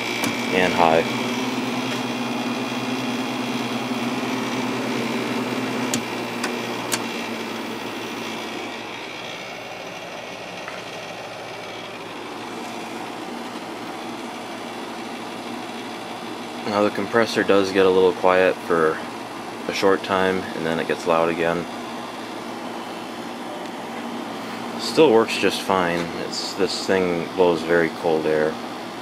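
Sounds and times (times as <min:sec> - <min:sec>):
compressor humming: 0:00.0 - 0:29.0
window air conditioner running: 0:00.0 - 0:29.0.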